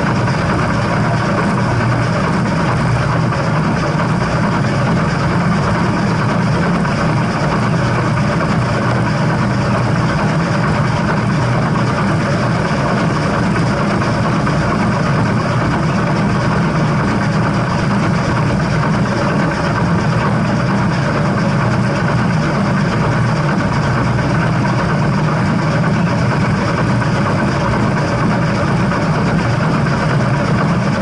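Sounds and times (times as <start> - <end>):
steam train rumbling and rattling: 0.0 - 31.0.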